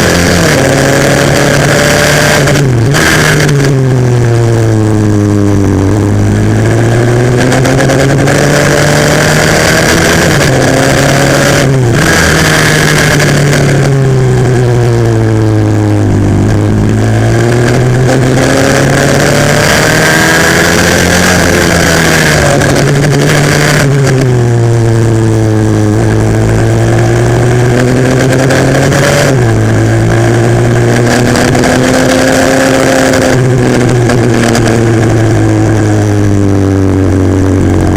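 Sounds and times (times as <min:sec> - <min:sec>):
pit bike engine revving: 0:00.0 - 0:37.9.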